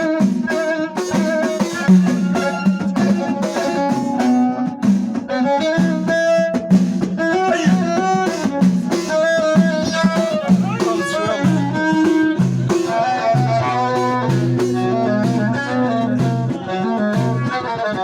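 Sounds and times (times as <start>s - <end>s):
drums keeping a steady beat: 0.0s - 18.0s.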